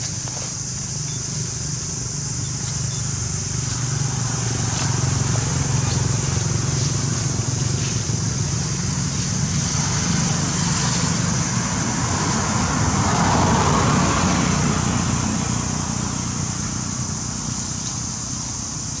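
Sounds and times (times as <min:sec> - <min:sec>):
vehicle passing: 0:02.0 - 0:18.9.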